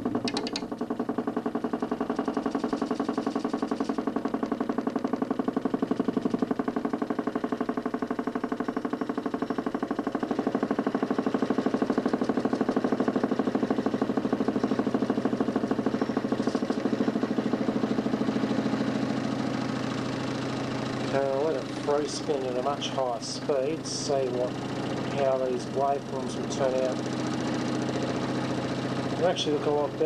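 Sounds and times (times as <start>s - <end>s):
motor spinning disc whirring: 0.0s - 8.2s, 8.8s - 30.0s.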